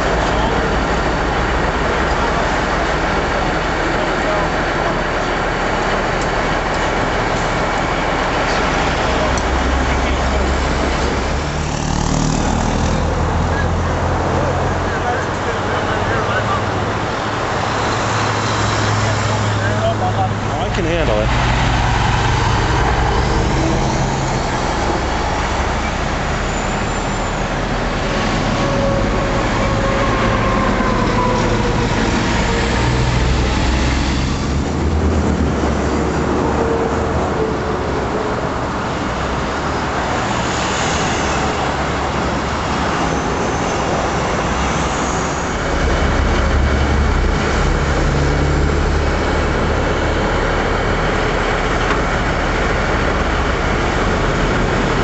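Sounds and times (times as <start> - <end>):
heavy engine rumble: 0.0 - 55.0
highway traffic passing: 0.0 - 55.0.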